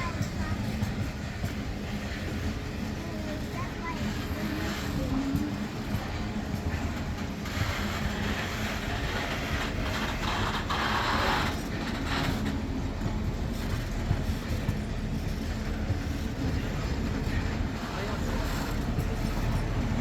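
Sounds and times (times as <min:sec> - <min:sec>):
steam locomotive rumble: 0:00.0 - 0:20.0.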